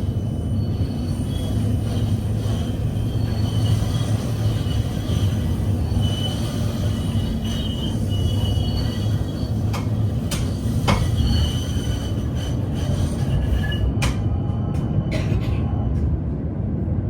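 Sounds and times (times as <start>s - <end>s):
wheels squealing on rails: 0.0s - 16.1s
tram rumbling on tracks: 0.0s - 17.0s.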